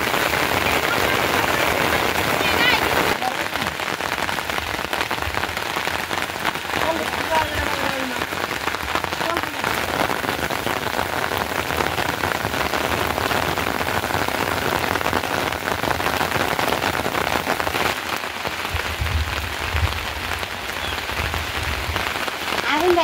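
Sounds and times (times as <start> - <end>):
rain on a plastic tarpaulin: 0.0 - 23.0.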